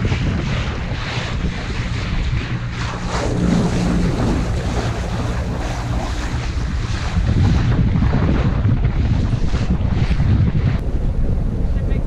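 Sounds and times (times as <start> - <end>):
steady low hum: 0.0 - 12.0
water rushing along hull: 0.0 - 12.0
wind buffeting microphone: 0.0 - 12.0.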